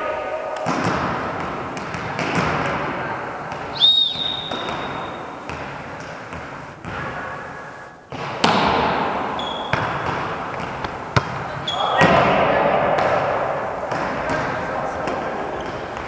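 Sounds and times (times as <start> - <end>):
ball strikes echoing: 0.0 - 7.2, 8.1 - 16.0.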